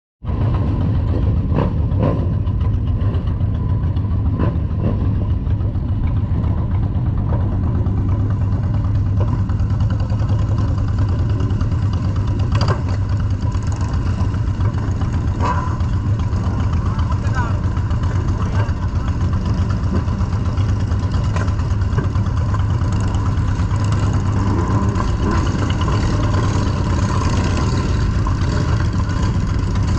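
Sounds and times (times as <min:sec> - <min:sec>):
motorcycle engine running: 0:00.2 - 0:29.9.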